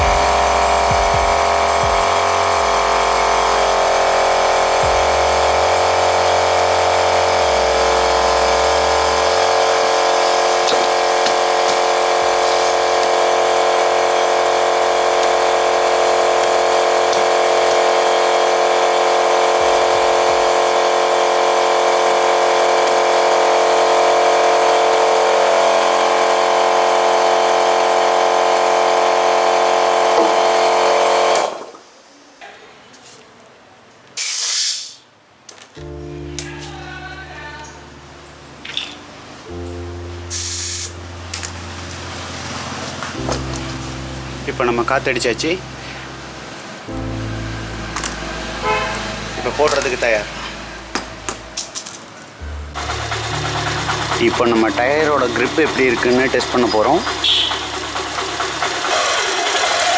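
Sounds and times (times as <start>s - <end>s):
electric air compressor running: 0.0s - 32.4s, 34.2s - 35.0s, 38.7s - 59.9s.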